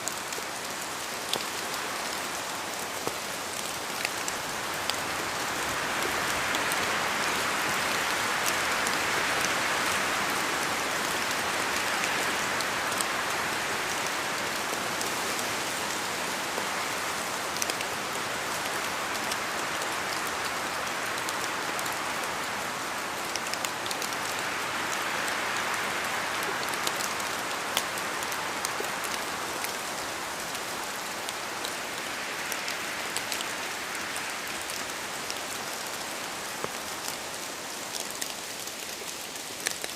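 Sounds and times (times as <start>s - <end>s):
steady rain with drop hits: 0.0s - 39.9s.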